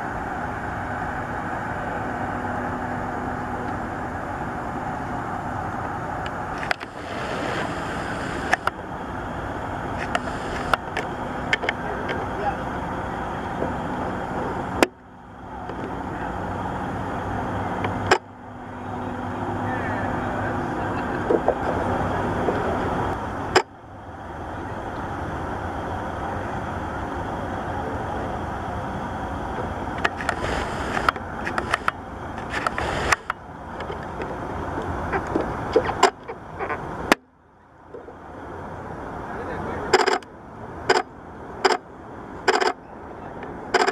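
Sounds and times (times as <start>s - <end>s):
distant engines droning: 0.0s - 43.9s.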